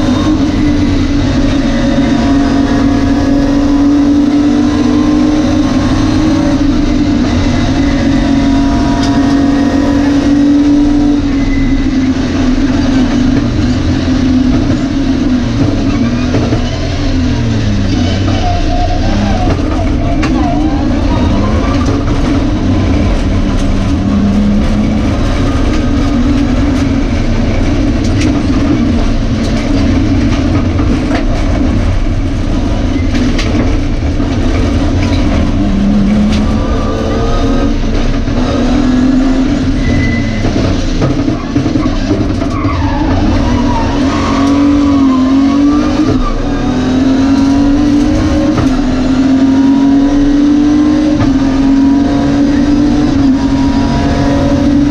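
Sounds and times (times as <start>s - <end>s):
rally car engine running hard: 0.0s - 54.9s
road and wind noise: 0.0s - 54.9s.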